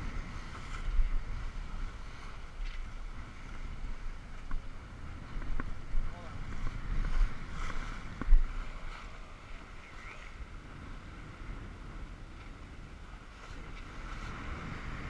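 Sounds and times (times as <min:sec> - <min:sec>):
water rushing along boat hull: 0:00.0 - 0:15.0
wind buffeting microphone: 0:00.0 - 0:15.0.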